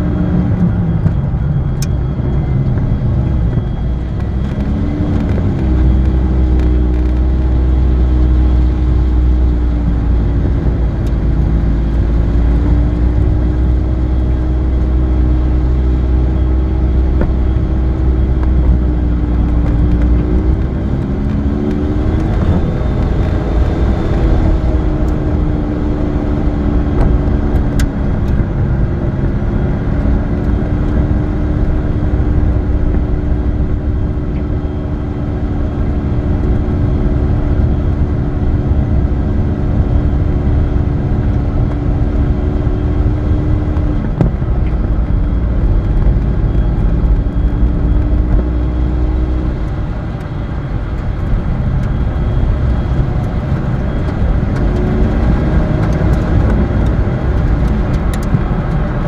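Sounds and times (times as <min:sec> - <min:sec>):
car engine running: 0:00.0 - 0:59.0
tyre and road rumble: 0:00.0 - 0:59.0.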